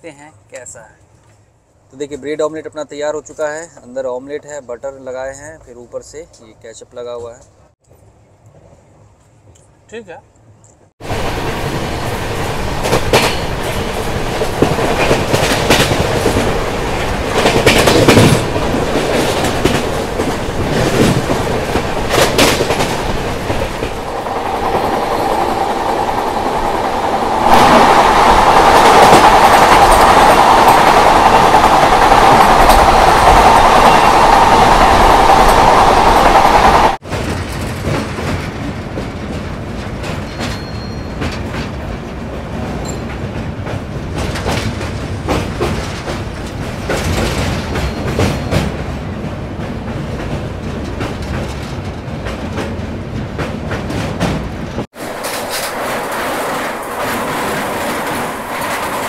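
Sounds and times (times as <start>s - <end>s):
train rushing wind and rolling: 0.0s - 59.0s.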